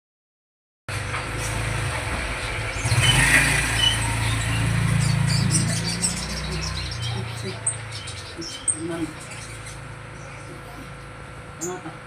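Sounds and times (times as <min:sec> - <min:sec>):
engine humming: 0:00.9 - 0:12.0.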